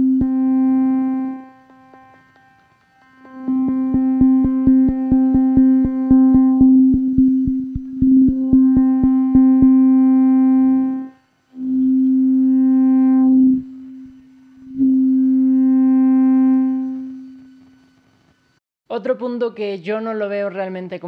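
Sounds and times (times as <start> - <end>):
synthesizer steady note: 0.0 - 17.5.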